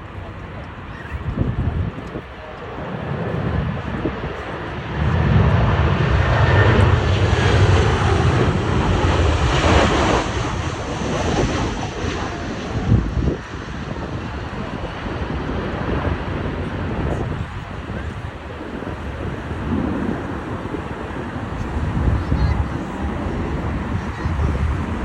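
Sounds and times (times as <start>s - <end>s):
jet airliner engines passing: 0.0s - 25.0s.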